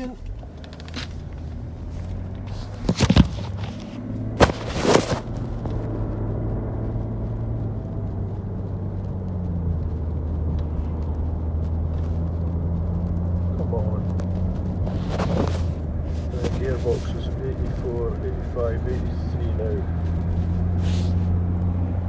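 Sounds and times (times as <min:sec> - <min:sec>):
car cabin road drone: 0:00.0 - 0:22.0.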